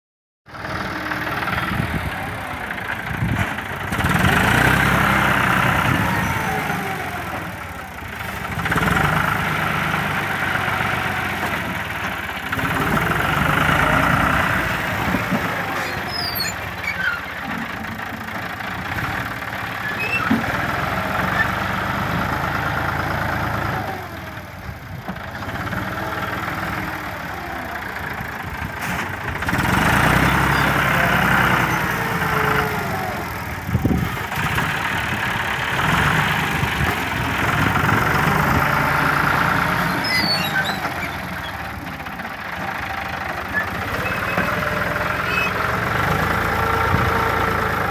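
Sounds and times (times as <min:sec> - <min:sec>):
tractor engine running: 0:00.5 - 0:47.9.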